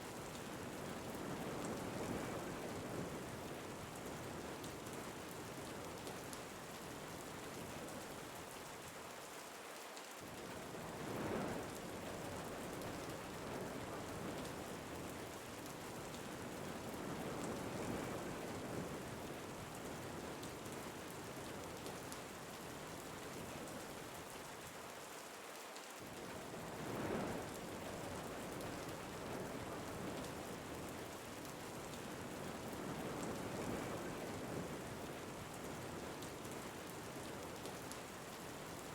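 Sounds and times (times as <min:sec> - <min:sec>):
steady rain falling: 0:00.0 - 0:38.9
wind: 0:00.0 - 0:38.9.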